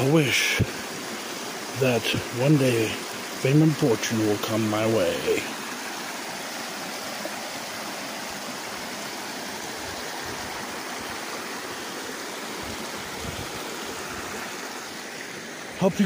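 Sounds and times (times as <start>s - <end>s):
creek flowing over rocks: 0.0s - 16.0s.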